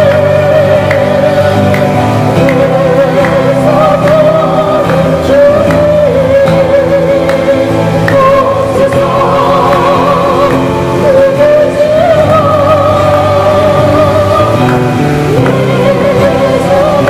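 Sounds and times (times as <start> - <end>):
acoustic guitars strummed: 0.0 - 17.0
people singing into microphones: 0.0 - 17.0.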